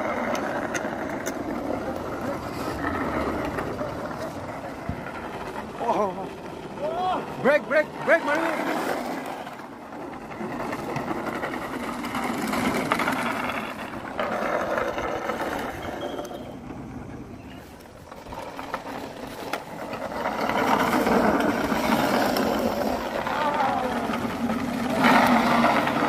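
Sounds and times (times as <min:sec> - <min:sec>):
wooden wheels rattling over asphalt: 0:00.0 - 0:26.0.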